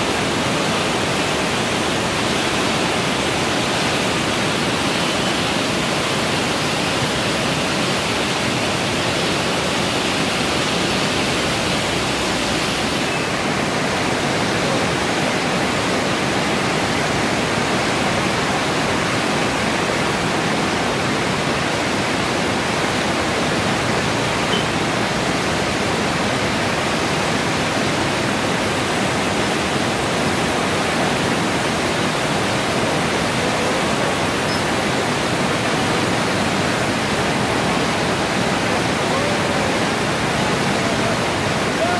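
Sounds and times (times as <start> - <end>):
floodwater rushing: 0.0 - 41.9.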